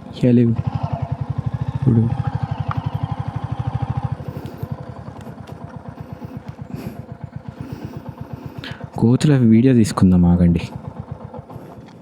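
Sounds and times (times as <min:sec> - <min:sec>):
motorcycle engine thumping: 0:00.0 - 0:12.0.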